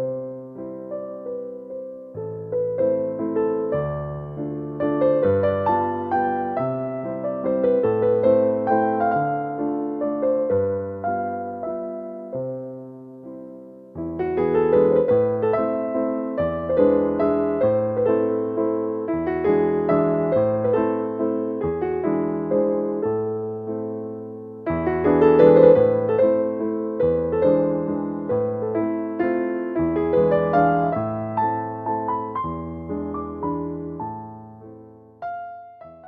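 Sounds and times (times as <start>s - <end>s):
gentle piano music: 0.0s - 36.0s.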